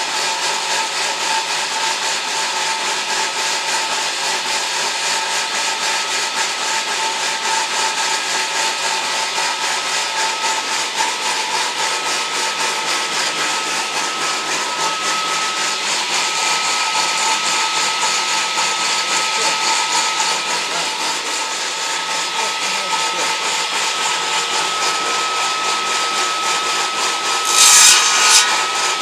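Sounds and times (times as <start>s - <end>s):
electric saw whining: 0.0s - 29.0s.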